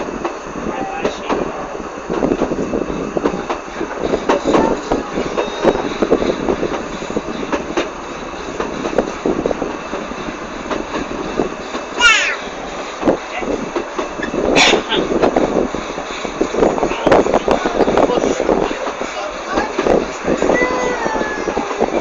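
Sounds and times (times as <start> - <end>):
train carriage rattling: 0.0 - 22.0
train wheels clattering: 0.0 - 22.0.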